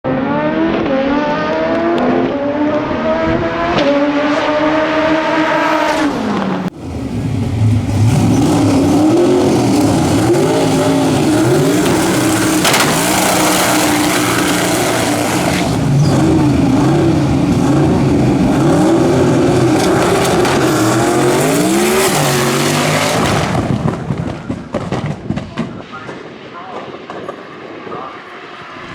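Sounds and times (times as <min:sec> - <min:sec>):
dragster engine revving: 0:00.1 - 0:24.5.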